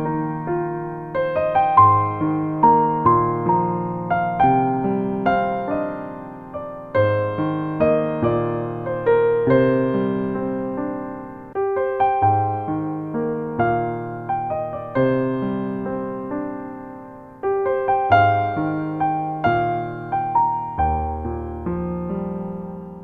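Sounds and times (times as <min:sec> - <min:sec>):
soft electric piano chords: 0:00.0 - 0:23.0.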